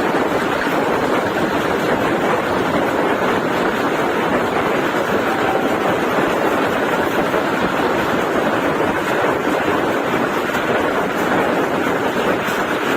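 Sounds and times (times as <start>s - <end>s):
train wheels on rail: 0.0s - 12.9s.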